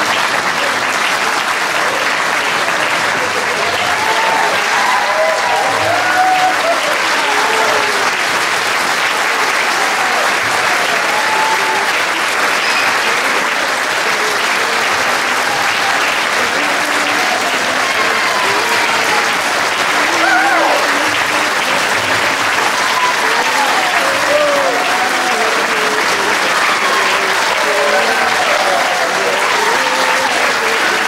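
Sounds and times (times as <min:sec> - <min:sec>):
audience applauding: 0:00.0 - 0:31.0.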